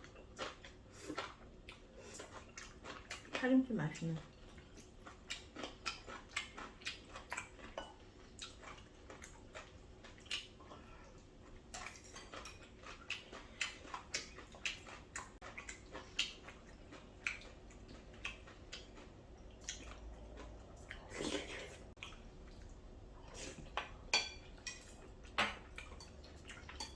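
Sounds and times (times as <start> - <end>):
wet stirring and eating sounds: 0.0 - 26.9.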